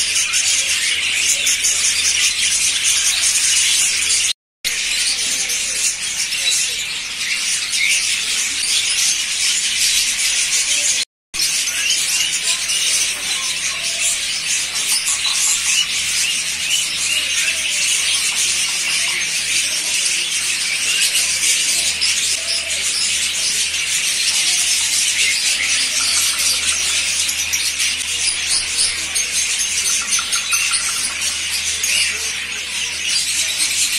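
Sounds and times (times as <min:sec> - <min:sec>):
birds chattering and screeching: 0:00.0 - 0:33.9.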